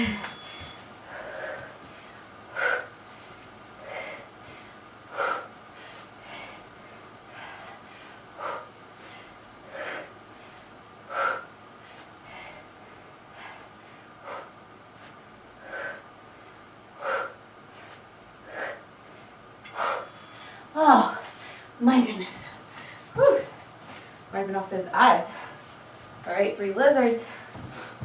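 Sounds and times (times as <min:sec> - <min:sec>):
woman breathing hard: 0:00.0 - 0:24.2, 0:27.2 - 0:28.0.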